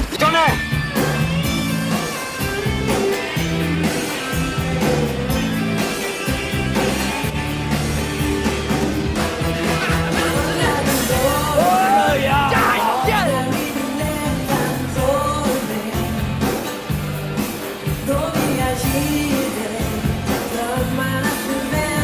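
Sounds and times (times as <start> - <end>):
rock and roll song: 0.0 - 22.0.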